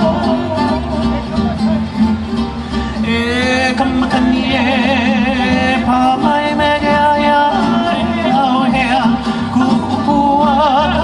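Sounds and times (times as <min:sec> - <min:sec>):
person singing: 0:00.0 - 0:01.9, 0:03.0 - 0:11.0
acoustic guitars: 0:00.0 - 0:11.0
upright bass: 0:00.0 - 0:11.0.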